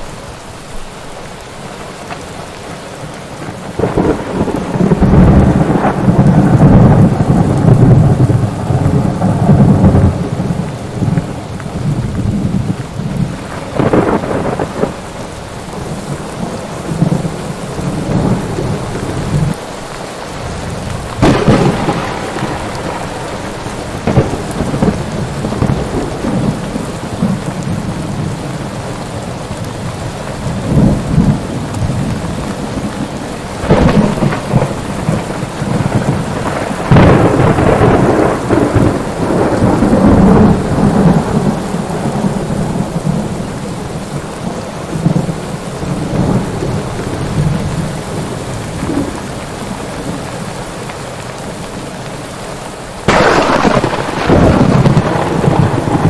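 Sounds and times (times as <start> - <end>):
steady rain: 0.0 - 56.0
thunder cracks and rumble: 3.4 - 19.6, 20.4 - 28.7, 29.5 - 49.4, 53.1 - 56.0.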